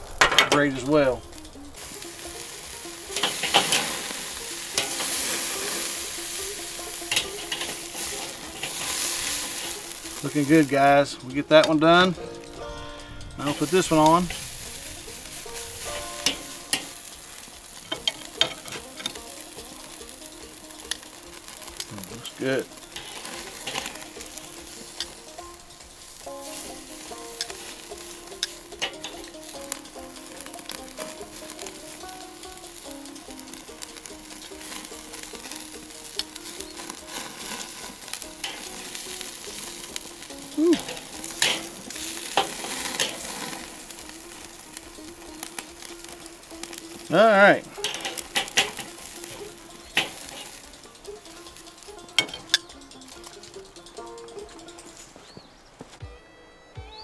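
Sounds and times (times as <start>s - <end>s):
sharp cracks of flare-up: 0.0s - 55.2s
steak sizzling on grill: 0.0s - 55.7s
fat crackling on coals: 0.0s - 56.2s
faint background music: 0.0s - 57.0s
metal tongs clicking: 1.2s - 10.2s, 11.2s - 47.1s, 47.7s - 54.9s.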